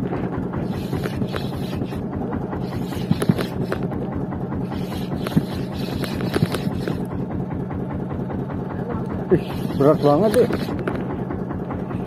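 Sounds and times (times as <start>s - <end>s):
boat engine throbbing: 0.0s - 12.0s.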